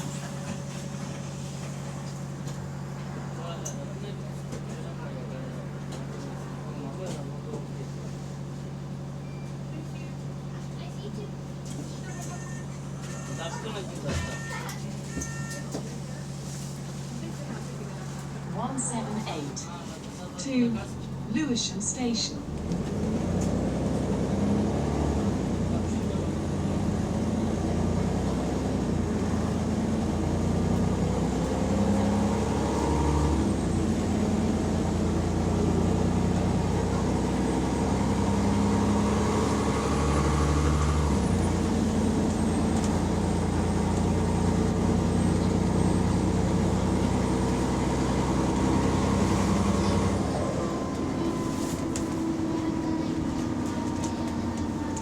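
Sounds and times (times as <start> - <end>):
bus diesel engine under load: 0.0 - 55.0.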